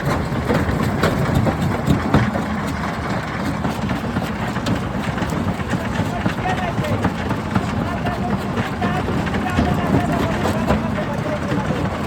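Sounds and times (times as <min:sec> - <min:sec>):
heavy engine rumble: 0:00.0 - 0:12.0.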